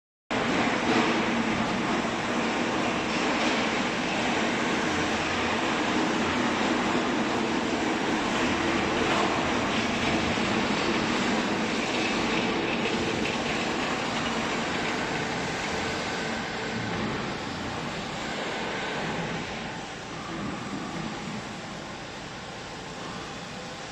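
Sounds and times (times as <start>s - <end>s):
hydraulic baler humming: 0.3s - 23.9s.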